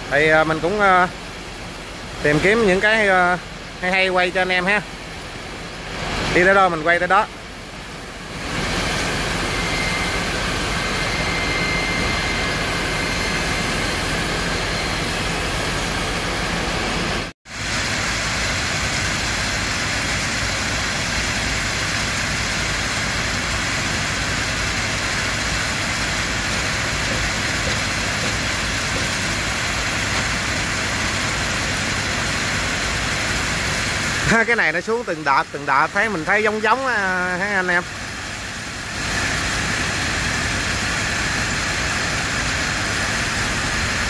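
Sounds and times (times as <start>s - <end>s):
rice pouring rush: 0.0s - 35.1s, 35.9s - 44.0s
low machine hum: 0.0s - 44.0s.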